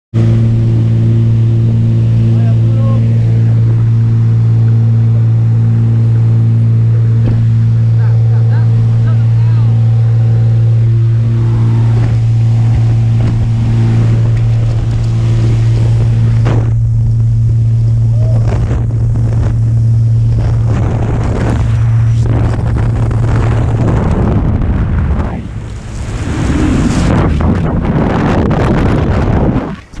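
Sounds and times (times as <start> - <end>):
small plane engine drone: 0.1 - 30.0
wind buffeting microphone: 0.2 - 30.0.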